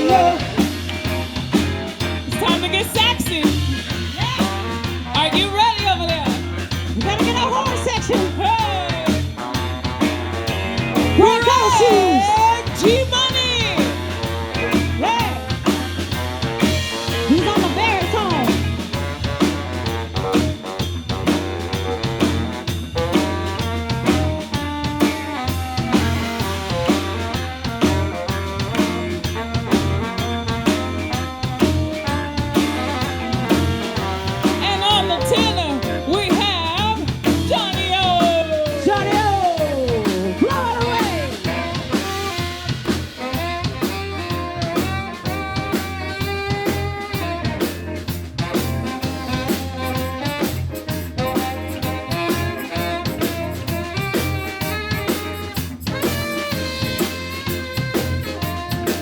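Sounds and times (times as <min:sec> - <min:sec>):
drum kit groove: 0:00.0 - 0:59.0
electric bass: 0:00.0 - 0:59.0.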